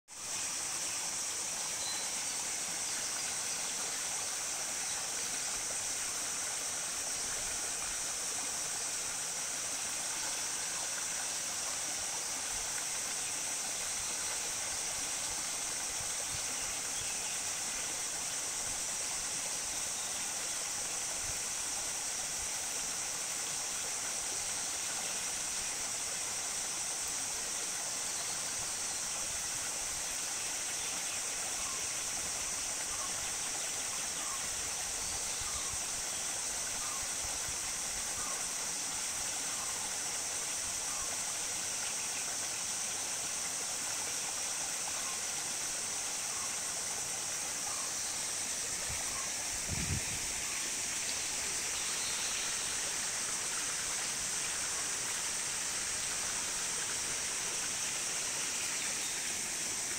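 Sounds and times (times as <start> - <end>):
stream running over stones: 0.1 - 59.9.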